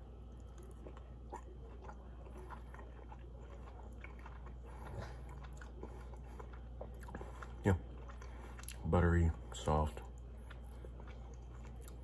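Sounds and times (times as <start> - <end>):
low steady hum: 0.0 - 12.0
person chewing: 0.0 - 12.0.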